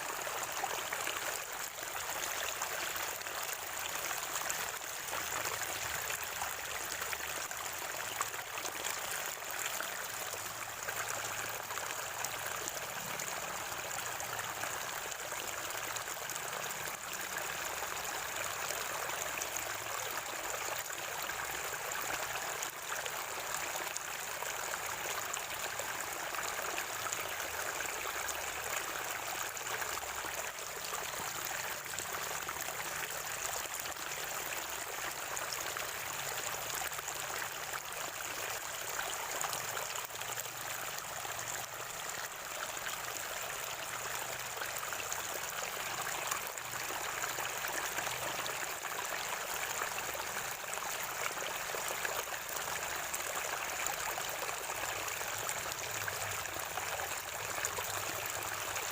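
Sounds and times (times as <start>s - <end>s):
water gurgling and trickling: 0.0s - 58.9s.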